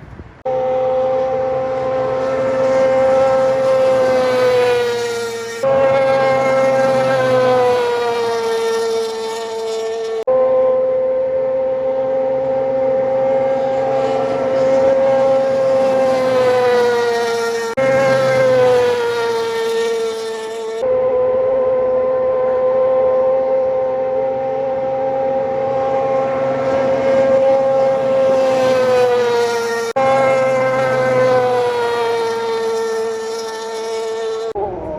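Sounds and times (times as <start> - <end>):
siren steady tone: 0.4 - 34.9.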